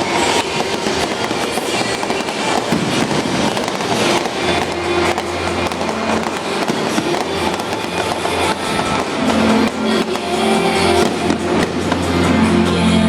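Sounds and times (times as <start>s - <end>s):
fireworks bursting and crackling: 0.0s - 12.8s
music over loudspeakers: 0.0s - 13.0s.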